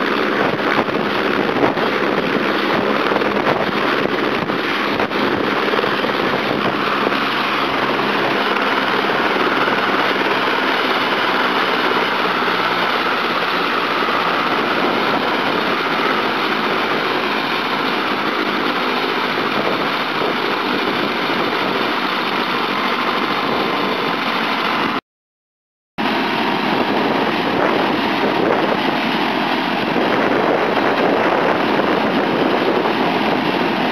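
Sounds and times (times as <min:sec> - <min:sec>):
helicopter rotor noise: 0:00.0 - 0:25.0, 0:26.0 - 0:33.9
helicopter turbine whine: 0:00.0 - 0:25.0, 0:26.0 - 0:33.9.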